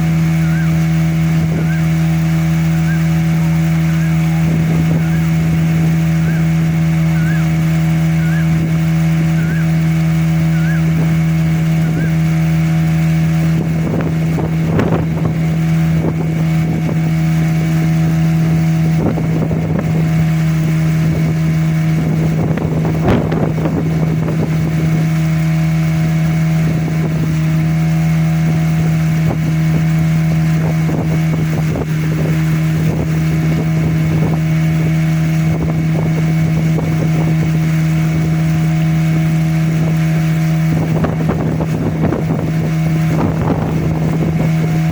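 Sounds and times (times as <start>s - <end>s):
motorboat engine droning: 0.0s - 44.9s
rush of wind or water: 0.0s - 44.9s.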